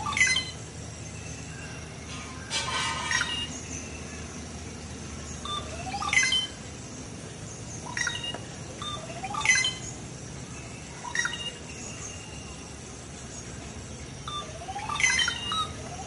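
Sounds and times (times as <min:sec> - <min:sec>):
birds calling metallic calls: 0:00.0 - 0:16.0.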